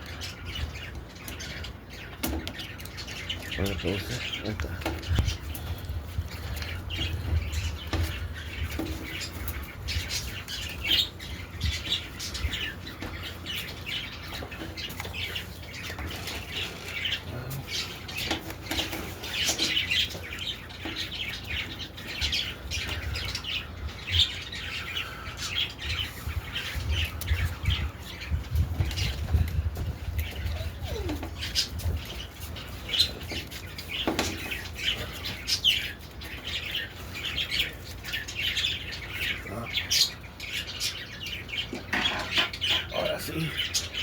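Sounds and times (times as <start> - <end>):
birds calling: 0.0 - 44.0.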